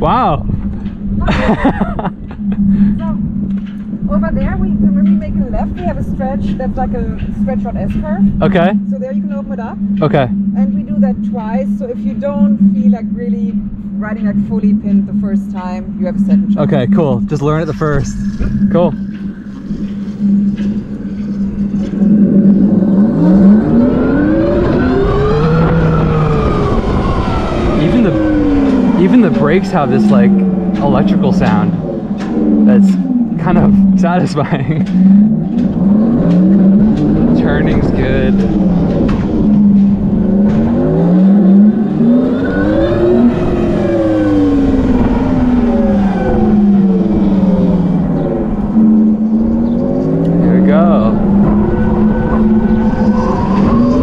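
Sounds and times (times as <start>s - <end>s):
wind and road noise: 0.0s - 54.0s
electric motor whining: 2.2s - 54.0s.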